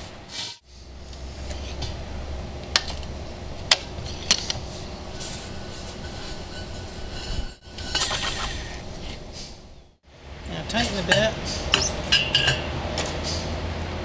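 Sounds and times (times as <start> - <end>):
low steady rumble: 0.1 - 14.0.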